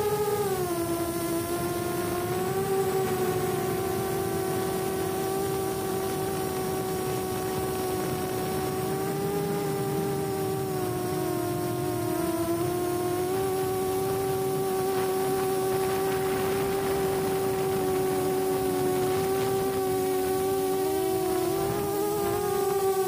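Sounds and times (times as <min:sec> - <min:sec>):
quadcopter motors whining buzz: 0:00.0 - 0:23.0.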